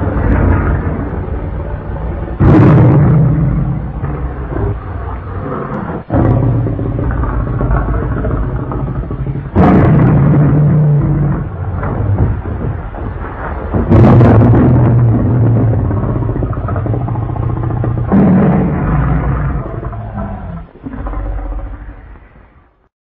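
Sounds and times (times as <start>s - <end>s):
deep monster roars: 0.0s - 22.5s.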